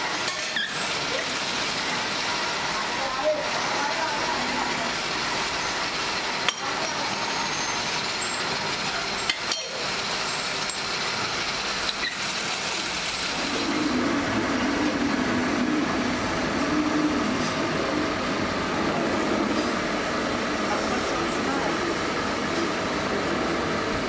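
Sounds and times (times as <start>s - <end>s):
steady machine noise: 0.0s - 24.0s.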